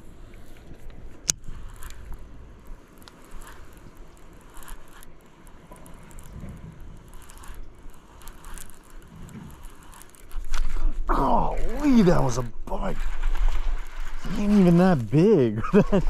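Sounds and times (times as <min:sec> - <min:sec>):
fishing reel clicks and rustles: 0:00.0 - 0:16.0.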